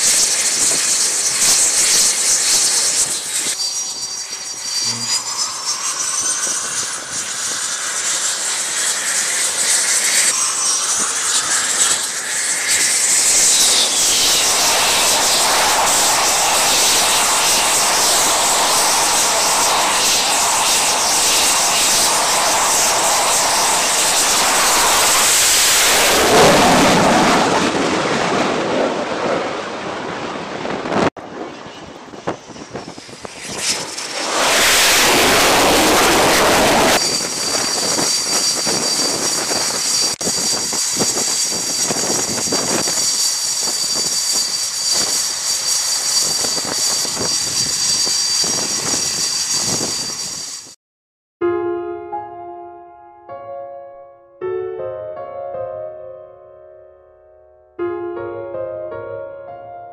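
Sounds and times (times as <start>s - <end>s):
jet engine running at high power: 0.0s - 50.8s
jet engine whine with high tones: 0.0s - 50.8s.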